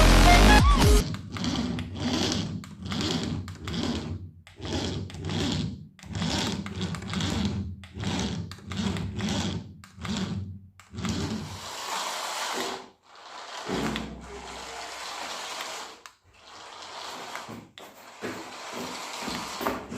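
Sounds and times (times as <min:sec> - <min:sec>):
toy car electric motor whirring: 0:00.0 - 0:19.9.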